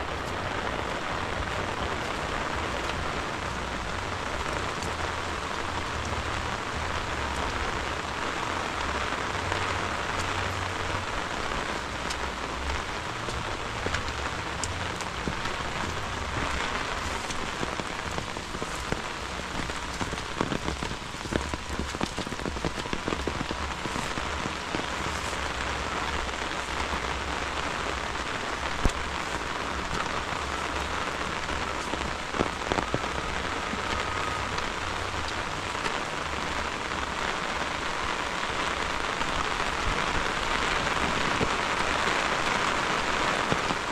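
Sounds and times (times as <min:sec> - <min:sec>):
heavy rain on vegetation: 0:00.0 - 0:43.9
raindrop ticks: 0:00.0 - 0:43.9.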